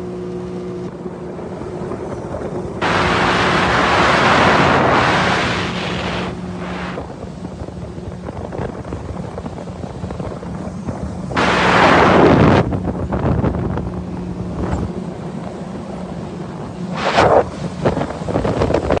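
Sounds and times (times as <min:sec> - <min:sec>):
jet ski engine running: 0:00.0 - 0:19.0
wind rushing over microphone: 0:00.9 - 0:19.0.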